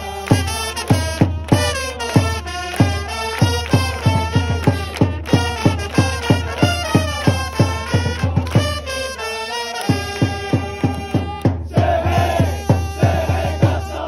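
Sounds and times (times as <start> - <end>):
steady drum beat: 0.0 - 9.0, 9.9 - 14.0
trumpets playing cheer melody: 0.0 - 14.0.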